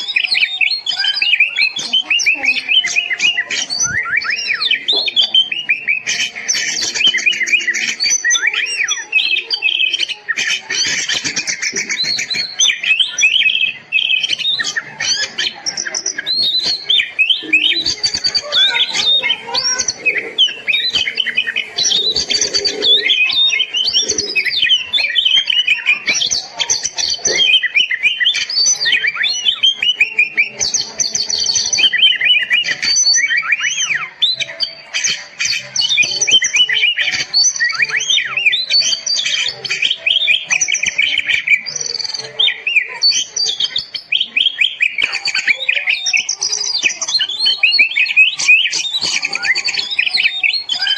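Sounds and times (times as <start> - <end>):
songbird singing varied whistles: 0.0 - 50.9.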